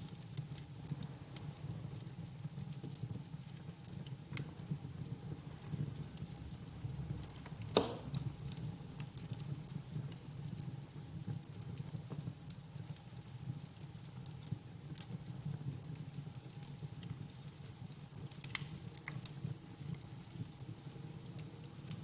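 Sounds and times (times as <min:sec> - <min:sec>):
fire crackling and popping: 0:00.0 - 0:22.0
wood fire rumbling: 0:00.0 - 0:22.0.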